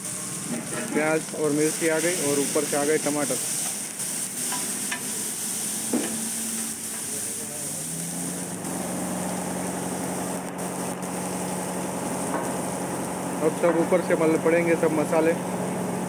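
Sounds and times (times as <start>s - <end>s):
vegetables sizzling on a griddle: 0.0s - 16.0s.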